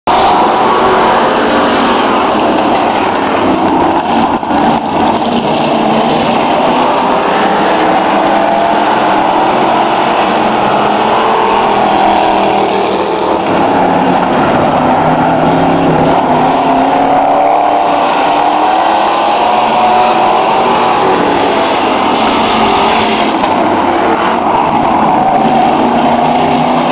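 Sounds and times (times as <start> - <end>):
truck engines racing: 0.0 - 26.9.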